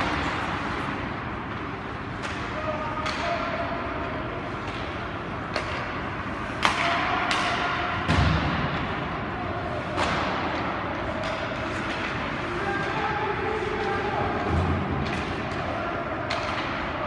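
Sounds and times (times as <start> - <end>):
sticks and puck clacking on ice: 0.0 - 17.0.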